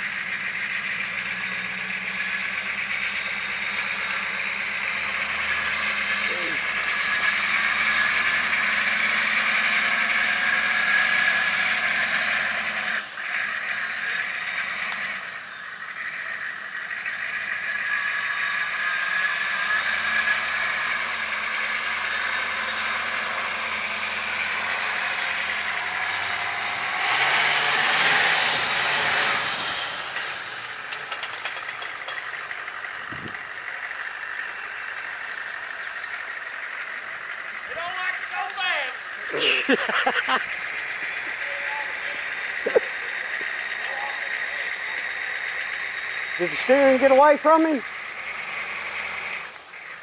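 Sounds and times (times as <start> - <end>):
high engine whine: 0.0 - 50.0
vehicle engine running: 0.0 - 50.0.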